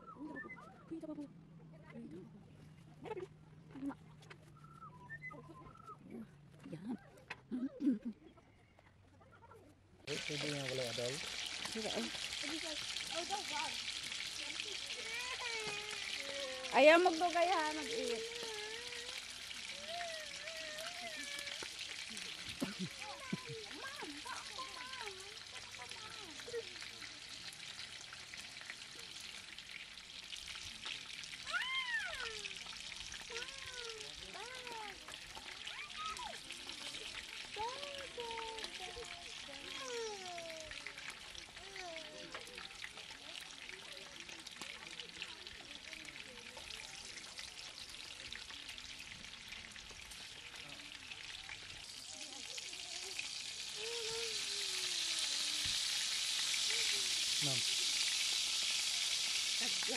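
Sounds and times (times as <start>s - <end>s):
sausages sizzling in a pan: 10.1s - 59.9s.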